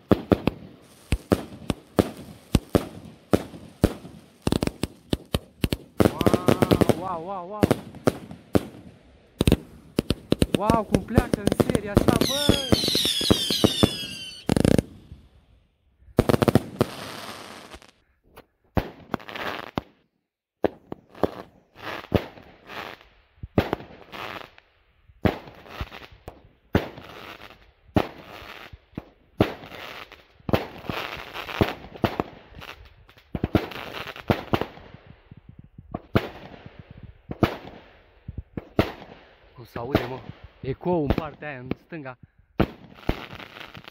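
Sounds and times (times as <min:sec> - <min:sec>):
firework bangs and bursts: 0:00.0 - 0:15.4, 0:16.1 - 0:18.0, 0:18.7 - 0:20.0, 0:20.6 - 0:24.6, 0:25.2 - 0:42.0, 0:42.6 - 0:43.9
firework crackling: 0:00.0 - 0:15.4, 0:16.2 - 0:18.0, 0:20.6 - 0:41.9, 0:42.6 - 0:43.9.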